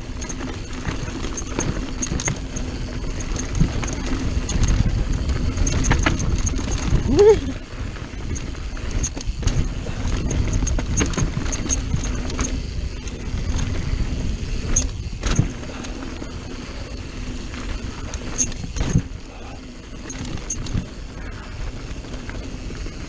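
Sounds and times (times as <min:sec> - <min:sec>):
bike clicks and rattles: 0:00.0 - 0:23.0
tyres rumbling on dirt: 0:00.0 - 0:23.0.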